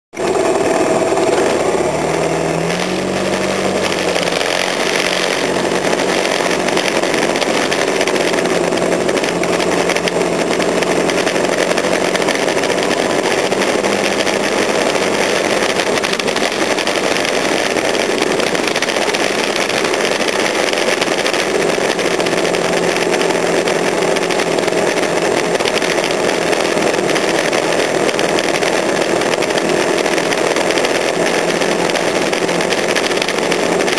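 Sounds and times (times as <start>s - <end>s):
noisy rush: 0.1s - 33.9s
small vehicle engine running: 0.2s - 33.9s.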